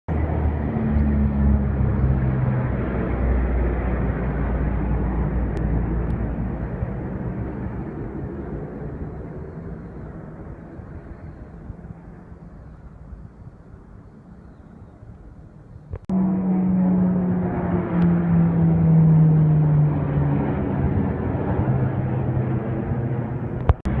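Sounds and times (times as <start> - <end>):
airplane passing: 0.1 - 24.0.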